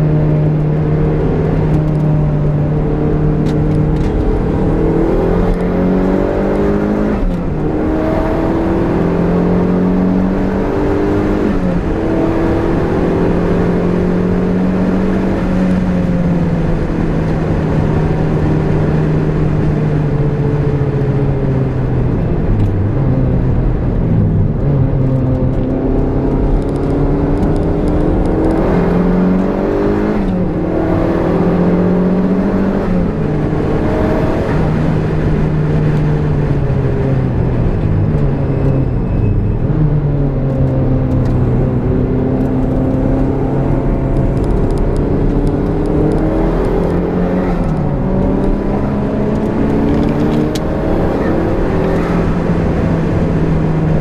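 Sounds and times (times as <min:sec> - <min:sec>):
car engine revving: 0:00.0 - 0:54.0
road and wind noise: 0:00.0 - 0:54.0.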